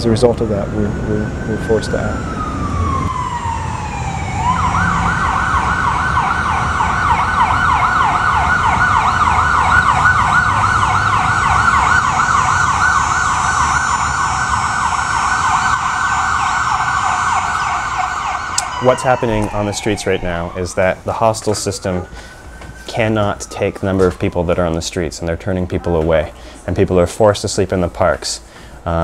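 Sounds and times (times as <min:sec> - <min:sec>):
emergency siren wailing and yelping: 0:00.0 - 0:24.9.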